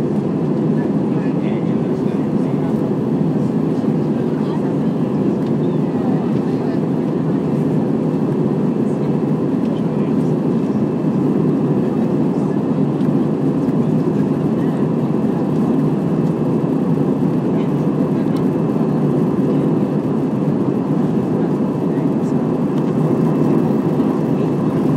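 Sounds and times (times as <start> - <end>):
airplane cabin engine rush: 0.0 - 24.9.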